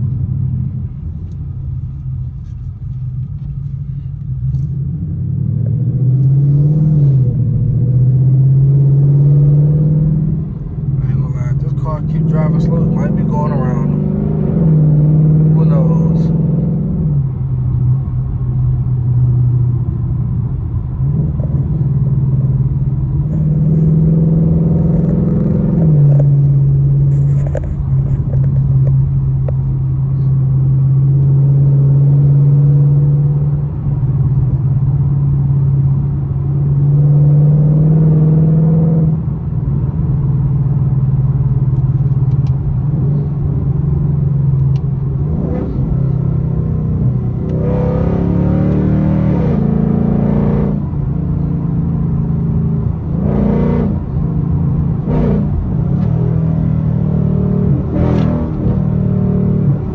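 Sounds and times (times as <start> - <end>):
car exhaust droning: 0.0 - 59.9.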